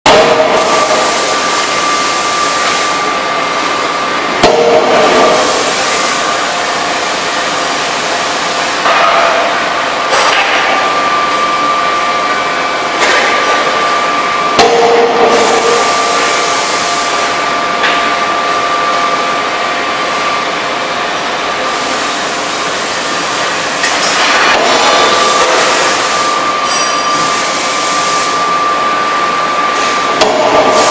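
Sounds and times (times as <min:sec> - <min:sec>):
loud machine noise with whine: 0:00.0 - 0:30.9.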